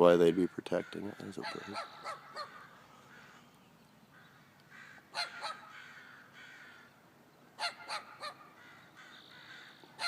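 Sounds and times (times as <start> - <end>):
distant birds calling: 0.0 - 10.0
crows cawing: 0.2 - 7.0, 7.6 - 10.0.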